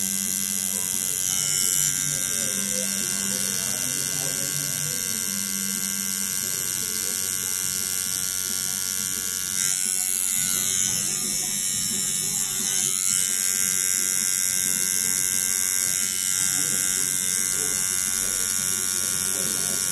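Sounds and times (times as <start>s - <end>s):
tattoo machine buzzing: 0.0s - 19.9s.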